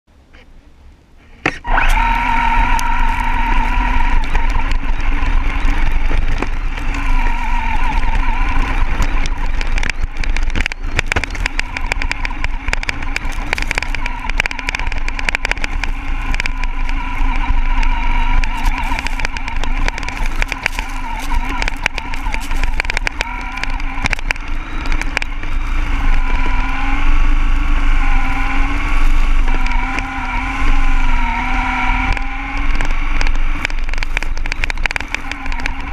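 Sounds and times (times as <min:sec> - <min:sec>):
toy car motor whining: 0:01.4 - 0:35.9
chassis knocking on ground: 0:02.0 - 0:35.9.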